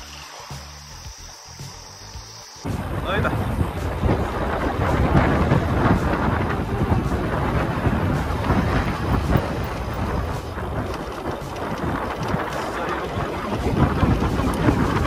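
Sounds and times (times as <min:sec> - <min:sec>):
mountain bike rattling on trail: 0:00.0 - 0:15.0
wind buffeting microphone: 0:02.6 - 0:15.0.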